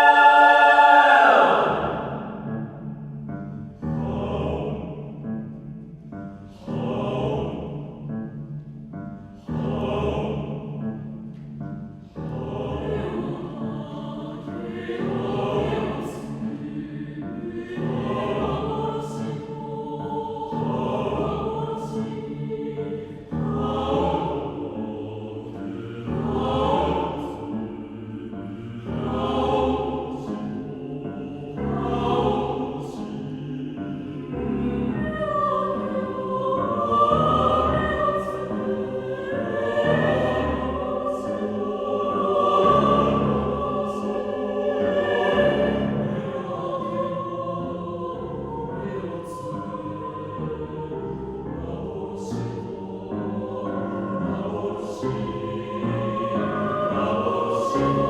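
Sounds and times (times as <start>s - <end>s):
mixed choir singing: 0.0s - 5.8s, 6.5s - 8.3s, 9.3s - 58.0s.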